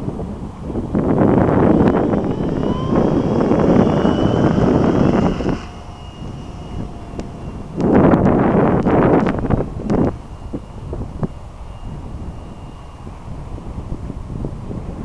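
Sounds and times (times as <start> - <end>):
model airplane engine whine: 0.0 - 15.0
wind buffeting microphone: 0.0 - 15.0.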